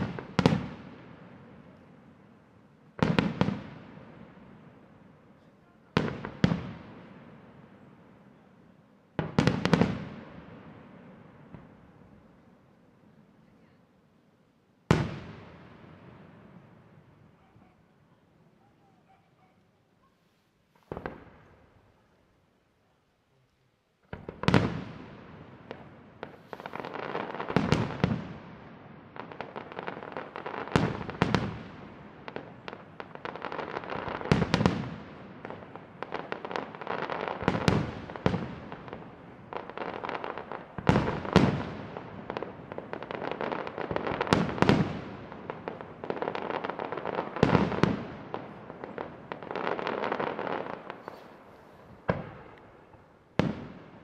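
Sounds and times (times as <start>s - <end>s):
firework stars crackling: 0.0s - 54.0s.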